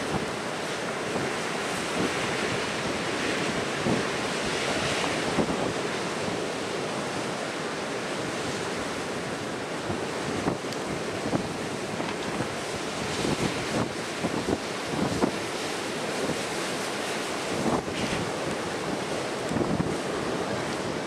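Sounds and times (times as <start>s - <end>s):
wind buffeting microphone: 0.0s - 6.4s, 9.8s - 21.0s
ocean surf breaking: 0.0s - 21.0s.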